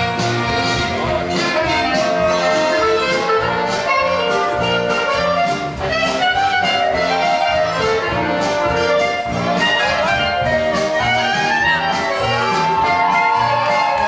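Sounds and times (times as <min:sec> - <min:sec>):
band playing dance music with brass: 0:00.0 - 0:14.0.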